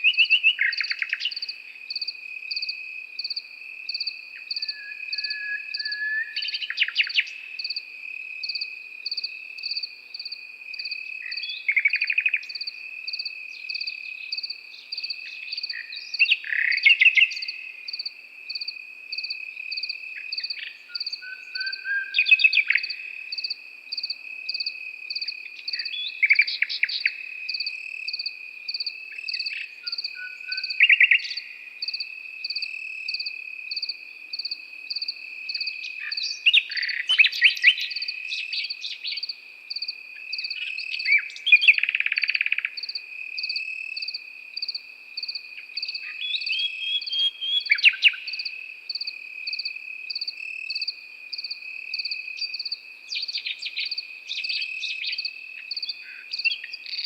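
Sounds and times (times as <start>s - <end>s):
continuous insect trill: 0.0s - 57.0s
cricket chirping: 0.0s - 57.0s
nightingale singing: 0.0s - 57.0s.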